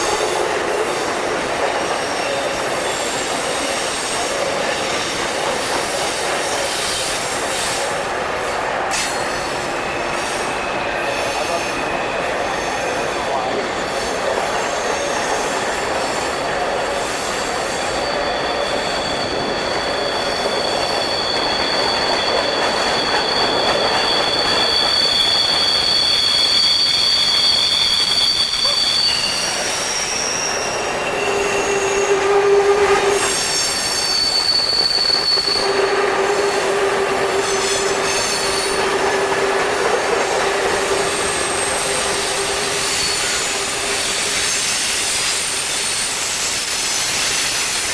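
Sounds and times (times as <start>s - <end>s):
train wheel squeal: 0.0s - 47.9s
train wheels rumbling on rail: 0.0s - 47.9s.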